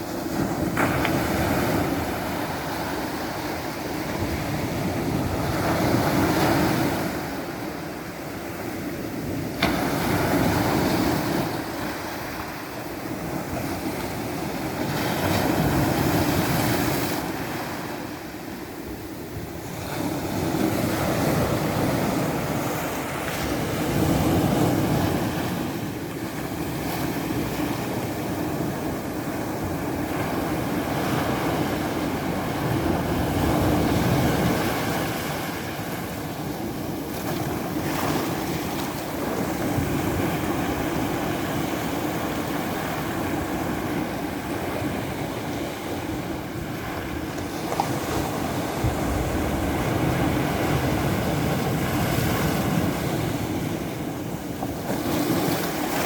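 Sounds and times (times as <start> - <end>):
waves washing onto shore: 0.0 - 56.0.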